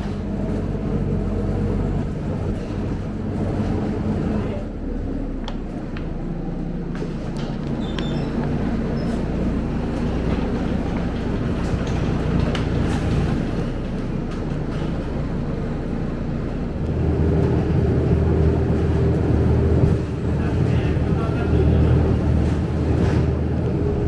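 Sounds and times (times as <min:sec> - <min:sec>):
bus diesel engine humming: 0:00.0 - 0:24.0.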